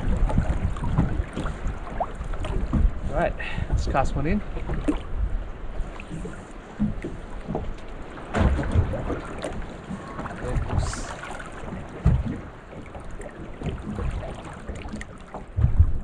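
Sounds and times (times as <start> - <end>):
water lapping against boat hull: 0.0 - 16.0
wind buffeting microphone: 0.0 - 16.0.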